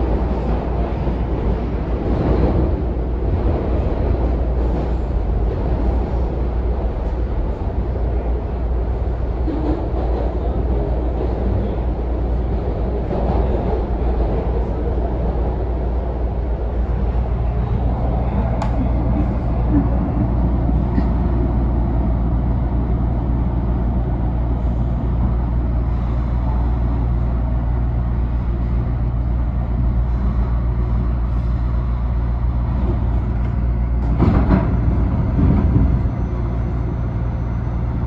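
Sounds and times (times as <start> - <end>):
subway train rumble: 0.0 - 38.0.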